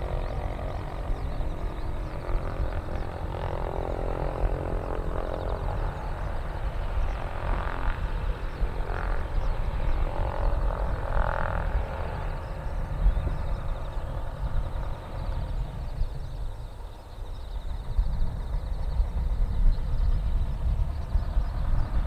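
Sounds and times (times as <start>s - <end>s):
propeller plane engine running: 0.0s - 22.0s.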